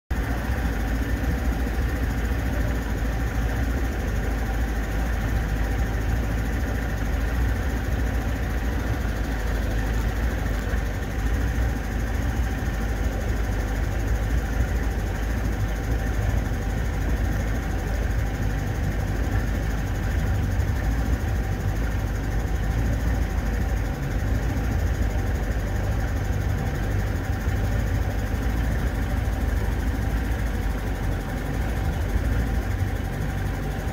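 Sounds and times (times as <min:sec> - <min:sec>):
motorboat engine droning: 0:00.1 - 0:33.9.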